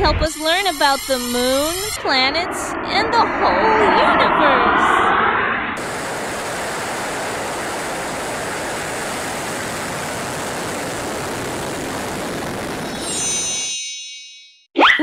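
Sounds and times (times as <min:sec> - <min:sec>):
rocket engines roaring: 0:00.0 - 0:12.9.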